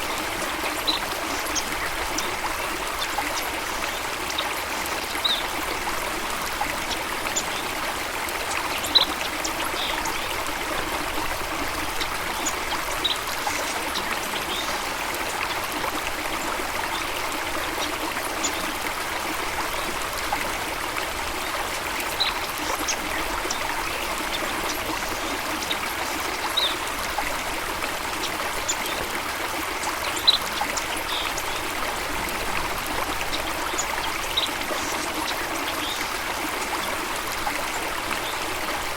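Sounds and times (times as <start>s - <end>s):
water stream trickling: 0.0s - 38.9s.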